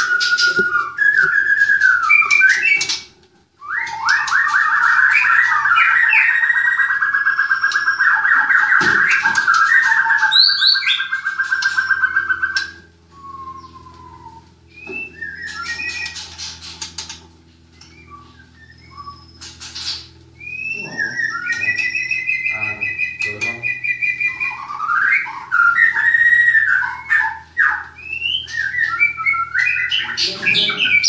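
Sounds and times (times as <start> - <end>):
songbirds singing whistles and trills: 0.0 - 31.0.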